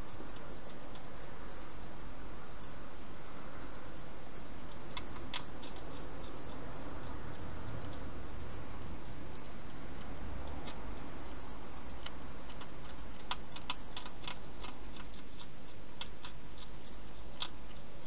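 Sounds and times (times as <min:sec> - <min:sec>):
hedgehog chewing crunchy food: 0:00.0 - 0:18.0.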